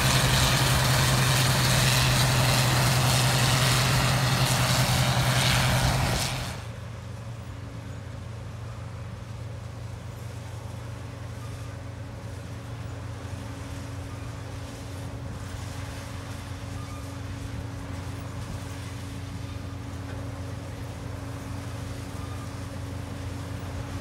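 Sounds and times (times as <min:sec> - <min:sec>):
combine harvester drone: 0:00.0 - 0:24.0.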